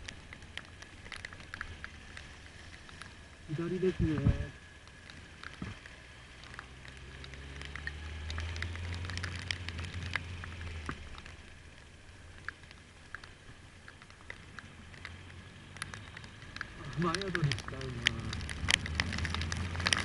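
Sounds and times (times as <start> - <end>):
motorcycle engine hum: 0.0 - 20.0
raindrops hitting microphone: 0.0 - 20.0.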